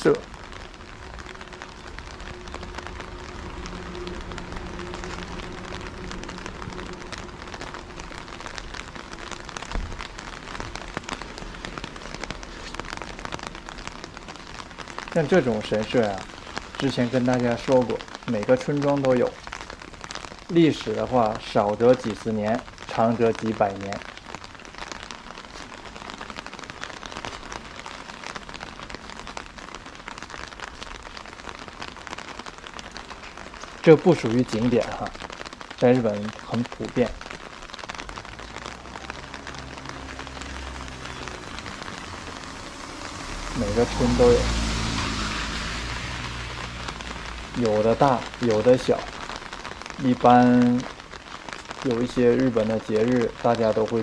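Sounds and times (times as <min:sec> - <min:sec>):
raindrops pattering: 0:00.0 - 0:54.0
steady rain falling: 0:00.0 - 0:54.0.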